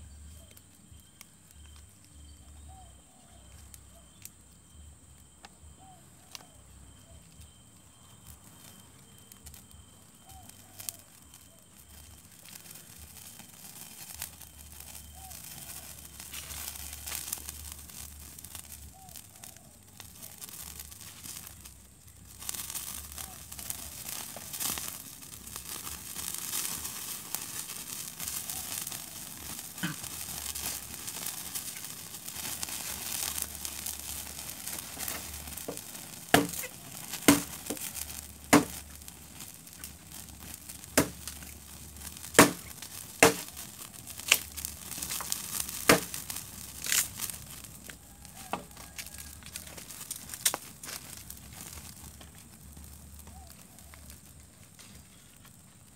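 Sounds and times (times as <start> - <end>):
wood fire crackling: 0.0 - 55.9
sharp pops from burning wood: 3.5 - 55.9.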